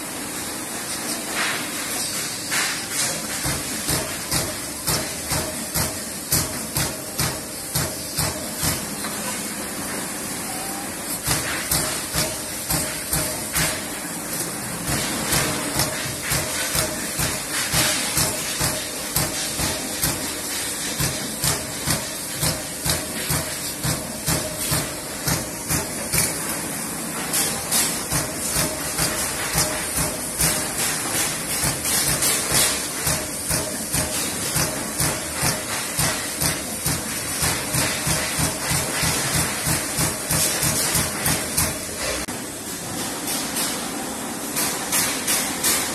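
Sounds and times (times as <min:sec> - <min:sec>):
machine hiss: 0:00.0 - 0:45.9
punch press punching sheet metal: 0:02.5 - 0:09.1, 0:11.2 - 0:14.0, 0:14.7 - 0:42.3.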